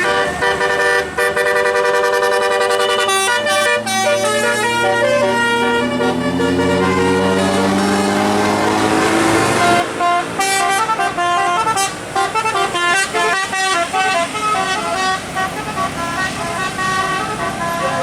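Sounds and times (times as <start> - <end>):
musical bus horn: 0.0 - 18.0.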